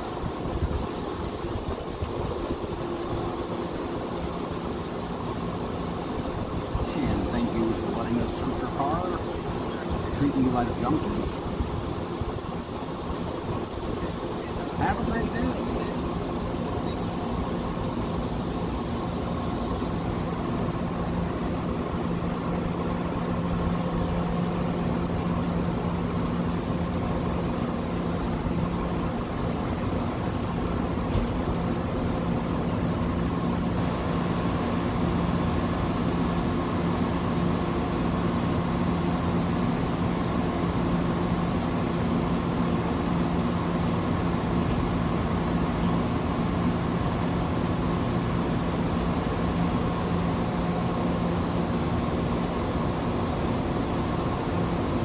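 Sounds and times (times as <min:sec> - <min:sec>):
low mechanical hum: 0:00.0 - 0:55.0
street noise: 0:00.0 - 0:55.0.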